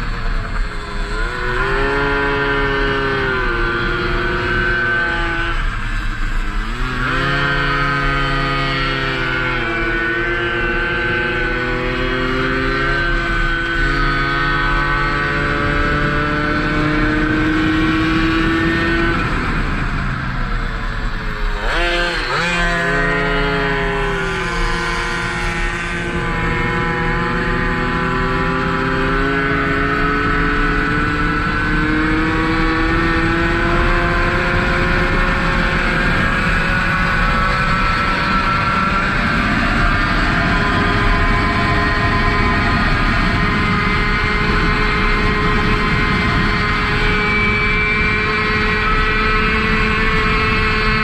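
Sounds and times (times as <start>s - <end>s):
moped engine revving: 0.0s - 51.0s.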